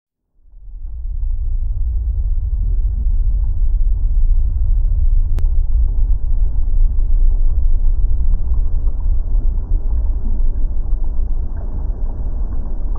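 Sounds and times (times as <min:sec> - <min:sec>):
bubbling lava rumble: 0:00.4 - 0:12.9.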